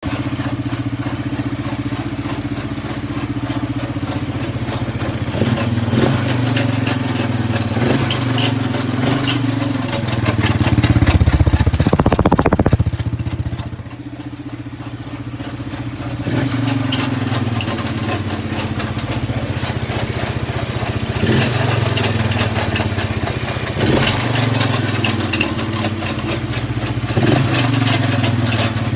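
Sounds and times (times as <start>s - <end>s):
atv engine idling and revving: 0.0s - 28.9s
sharp engine knocks: 0.4s - 13.9s, 16.0s - 28.9s.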